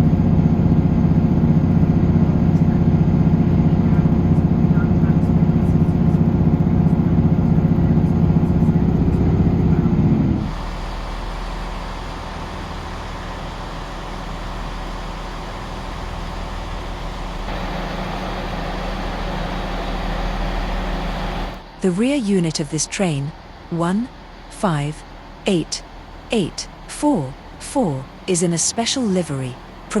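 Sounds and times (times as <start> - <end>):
diesel train engine drone: 0.0 - 30.0.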